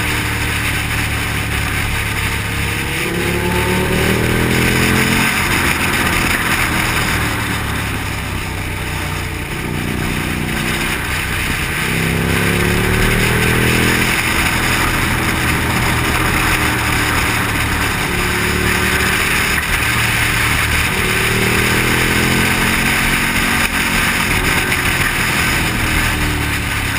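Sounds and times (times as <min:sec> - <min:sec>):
motorcycle engine under load: 0:00.0 - 0:26.9
wind rushing: 0:01.1 - 0:23.3.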